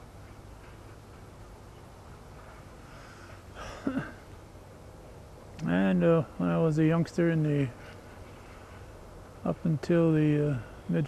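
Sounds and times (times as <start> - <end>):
distant forage harvester humming: 0.0 - 11.0
outdoor hiss: 0.0 - 11.0.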